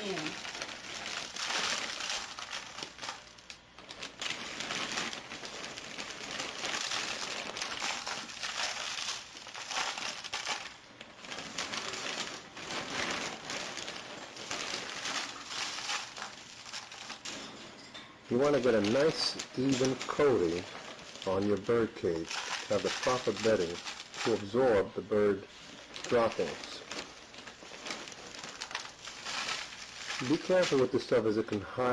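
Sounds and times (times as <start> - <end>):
bag crackling: 0.0 - 31.9
bedding rustling and crinkling: 0.0 - 31.9.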